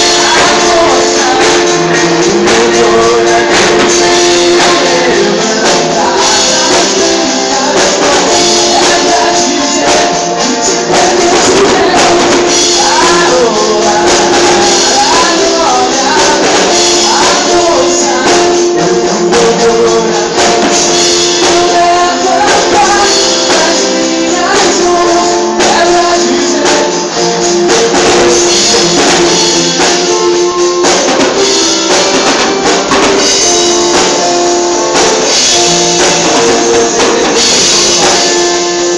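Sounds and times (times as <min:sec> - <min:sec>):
person singing: 0:00.0 - 0:38.9
worship band music: 0:00.0 - 0:38.9.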